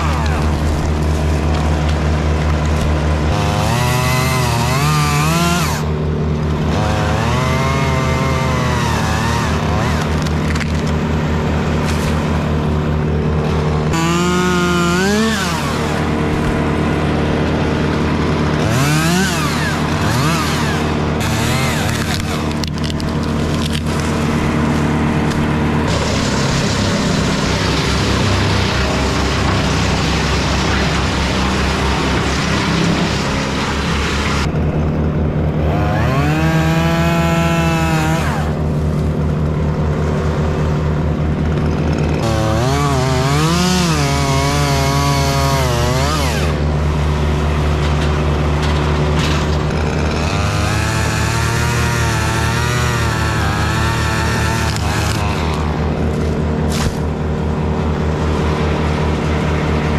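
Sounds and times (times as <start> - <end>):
chainsaw cutting: 0.0 - 59.9.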